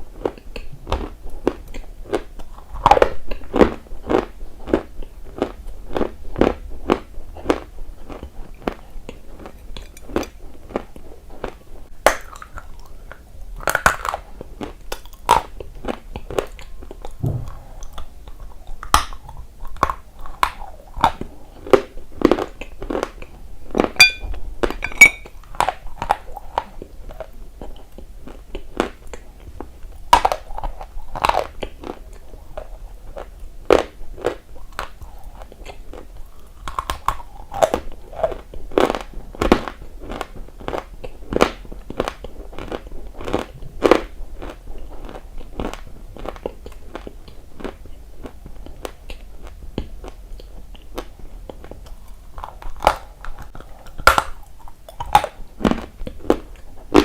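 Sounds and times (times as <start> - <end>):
chewing crunchy earth: 0.1 - 57.0.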